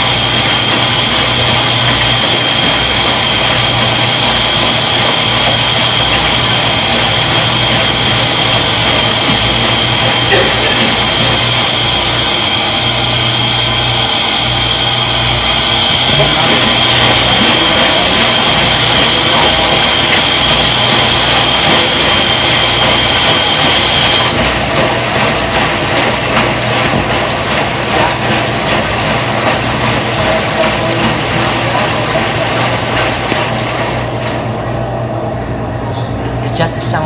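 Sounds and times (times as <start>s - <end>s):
washing machine spinning with whine: 0.0s - 37.0s.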